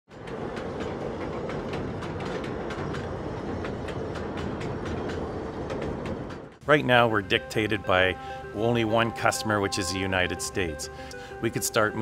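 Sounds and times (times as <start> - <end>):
freight train rumbling: 0.1 - 12.0
wheels clacking over rail joints: 0.1 - 12.0.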